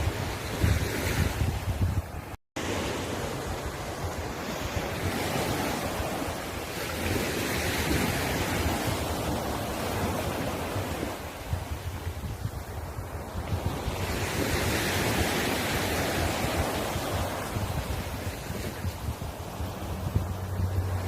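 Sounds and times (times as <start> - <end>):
sea waves washing onto shore: 0.0 - 21.0
wind rumbling on microphone: 0.0 - 21.0.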